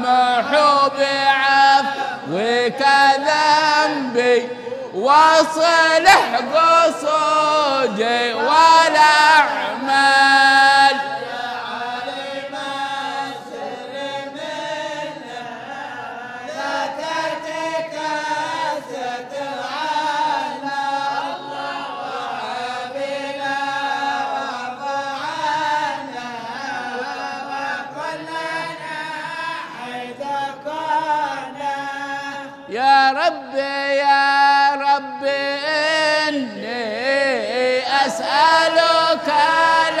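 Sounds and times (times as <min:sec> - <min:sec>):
men chanting together: 0:00.0 - 0:40.0.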